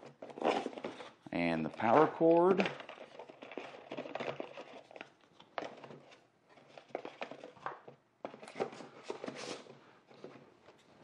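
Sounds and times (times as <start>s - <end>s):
packaging and cord handling: 0.0s - 11.0s.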